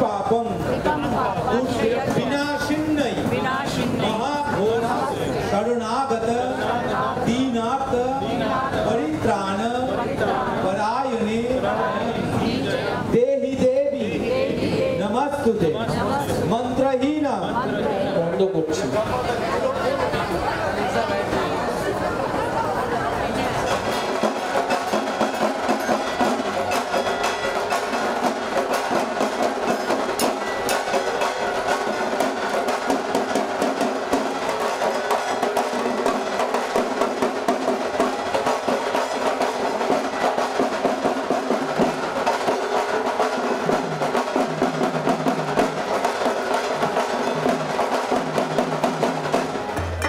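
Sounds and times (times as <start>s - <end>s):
quick steady percussion: 0.0s - 17.9s, 18.6s - 50.0s.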